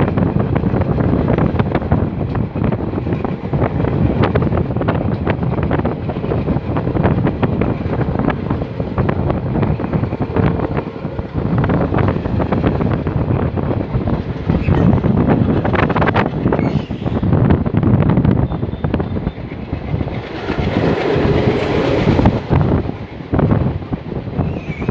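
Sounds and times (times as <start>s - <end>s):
train wheels clattering on rails: 0.0s - 24.9s
wind buffeting microphone: 0.0s - 24.9s.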